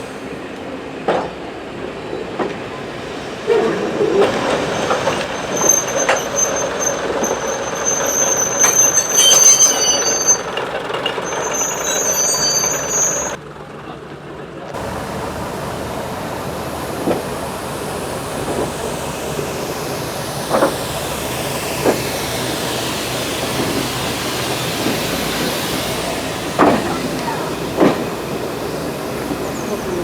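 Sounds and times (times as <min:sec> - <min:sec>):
train rumble and hiss: 0:00.0 - 0:30.0.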